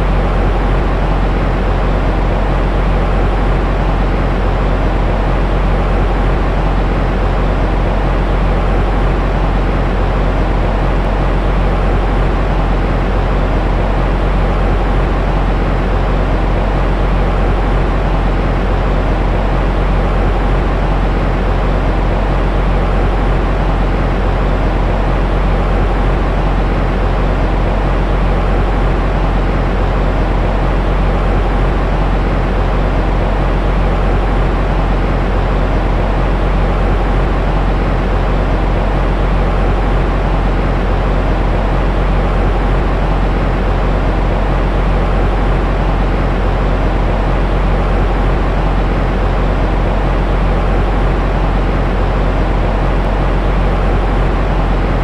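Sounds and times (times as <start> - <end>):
faint steady hum: 0.0 - 55.0
white noise rush: 0.0 - 55.0.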